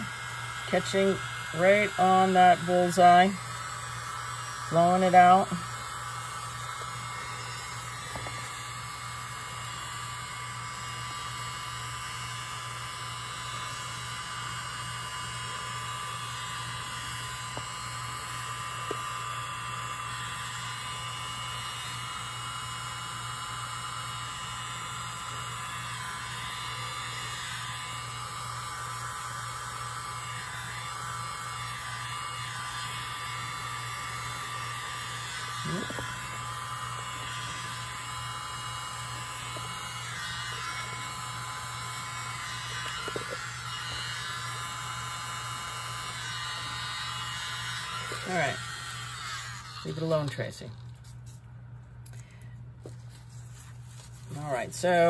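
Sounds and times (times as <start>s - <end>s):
electric air blower humming: 0.0s - 55.0s.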